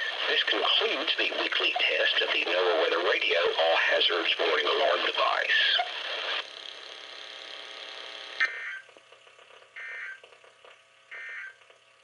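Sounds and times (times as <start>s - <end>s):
faint radio hiss: 0.0s - 12.0s.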